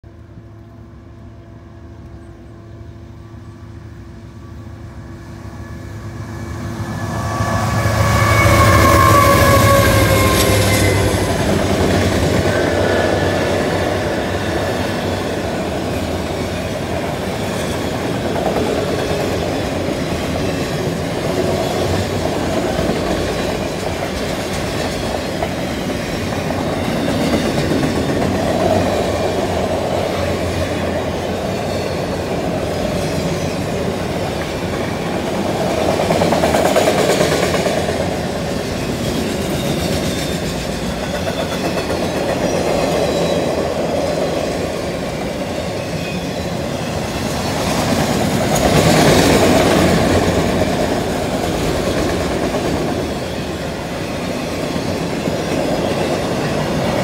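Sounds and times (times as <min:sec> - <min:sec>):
diesel locomotives passing: 0:00.0 - 0:57.0
rail cars rumbling and clattering: 0:00.0 - 0:57.0.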